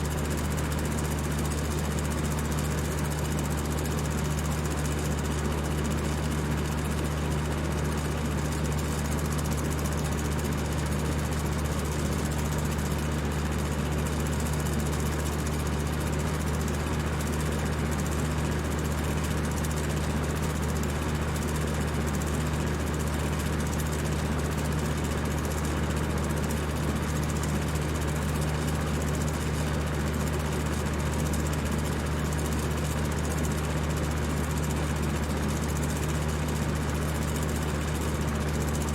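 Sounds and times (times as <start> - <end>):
fan motor hum: 0.0 - 38.9.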